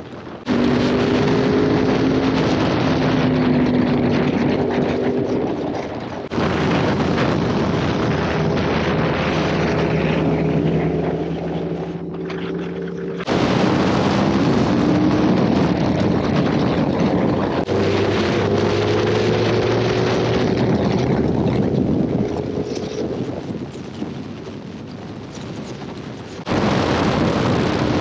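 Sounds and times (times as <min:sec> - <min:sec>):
motorcycle engine at speed: 0:00.0 - 0:28.0
wind rush: 0:00.0 - 0:28.0.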